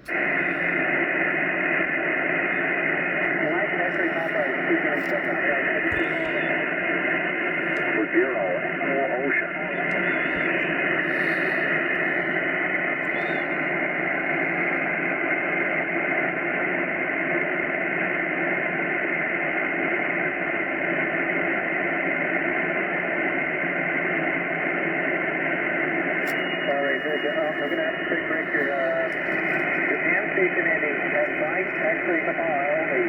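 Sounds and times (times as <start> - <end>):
radio receiver static hiss: 0.0 - 33.0.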